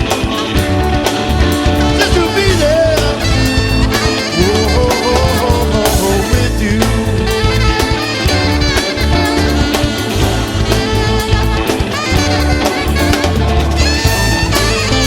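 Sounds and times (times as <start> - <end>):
instrumental music with bass line: 0.0 - 15.0.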